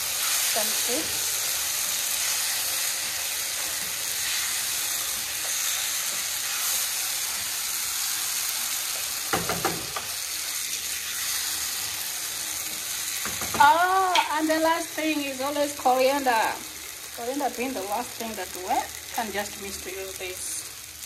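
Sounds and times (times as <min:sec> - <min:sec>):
stew sizzling in a frying pan: 0:00.0 - 0:21.0.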